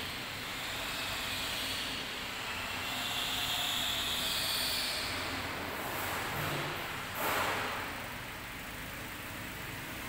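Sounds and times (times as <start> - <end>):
room noise hiss: 0.0 - 10.0.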